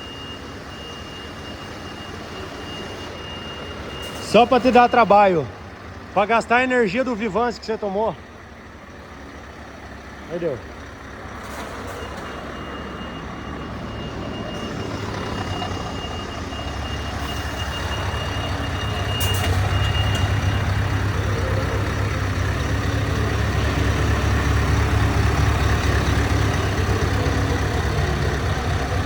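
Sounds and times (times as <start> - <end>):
truck engine deep rumble: 0.0 - 29.0.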